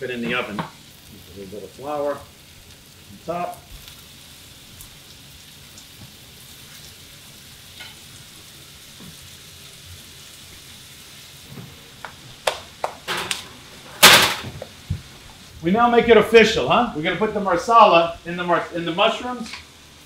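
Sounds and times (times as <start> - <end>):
food sizzling in a skillet: 0.0 - 20.0.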